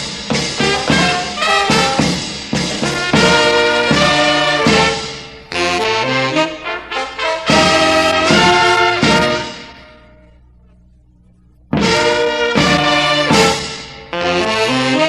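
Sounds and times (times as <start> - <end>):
brass band playing chords: 0.0 - 15.0
low brass line climbing: 2.8 - 15.0.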